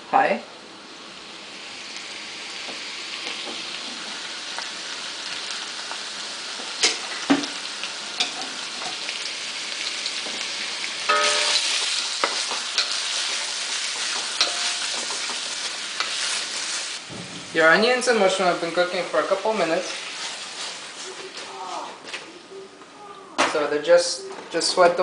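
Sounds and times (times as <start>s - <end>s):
vegetables sizzling in oil: 0.0s - 22.3s.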